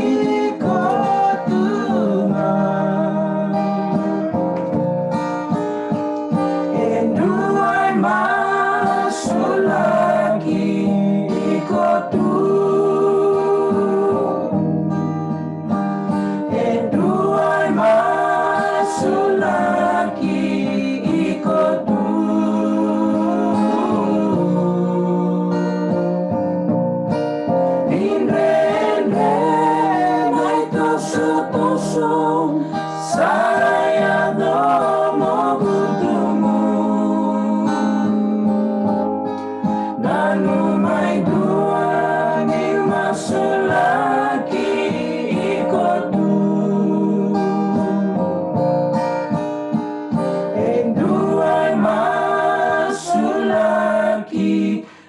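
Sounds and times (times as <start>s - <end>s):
voices singing a hymn: 0.0s - 4.5s, 6.5s - 15.1s, 16.1s - 26.4s, 27.7s - 48.7s, 50.2s - 55.0s
guitar: 0.0s - 55.0s.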